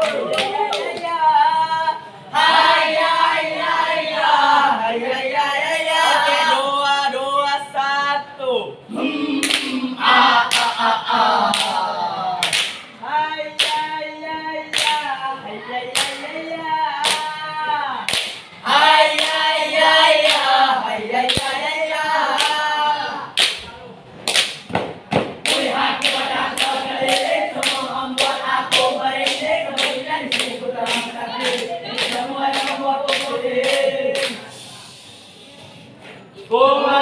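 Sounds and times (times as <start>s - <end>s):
male voices chanting in unison: 0.0s - 23.4s, 25.5s - 35.0s.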